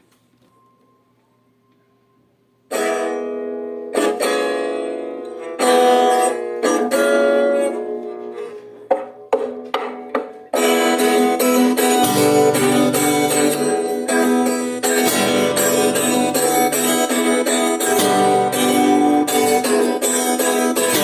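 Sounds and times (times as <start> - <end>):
guitar chords strummed: 2.7 - 21.0.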